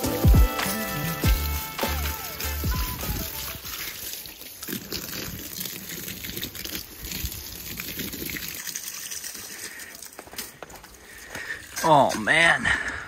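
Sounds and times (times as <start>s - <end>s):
hose water splattering on leaves: 0.0s - 12.5s.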